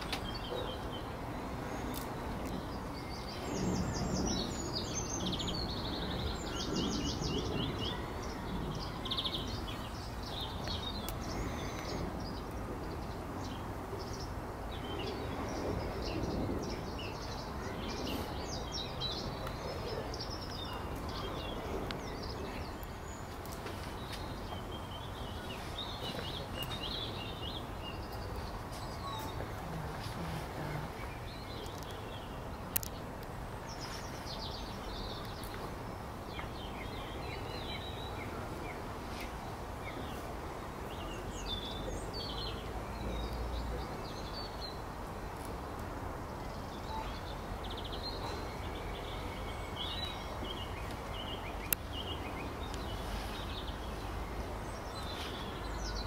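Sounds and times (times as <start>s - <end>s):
outdoor background noise: 0.0s - 56.0s
small birds chirping: 0.0s - 56.0s.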